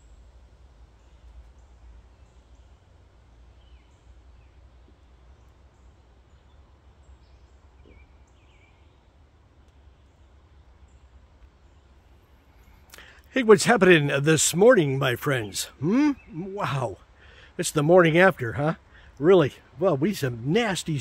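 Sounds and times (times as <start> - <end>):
steady low rumble: 0.0 - 21.0
faint bird chirps: 0.9 - 13.4, 14.1 - 20.5.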